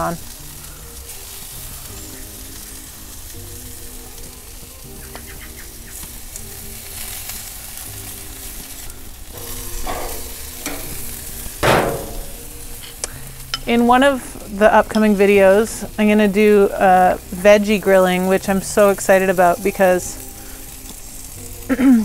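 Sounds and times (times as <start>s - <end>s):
chicken sizzling on grill: 0.0s - 22.0s
soft background music: 0.0s - 22.0s.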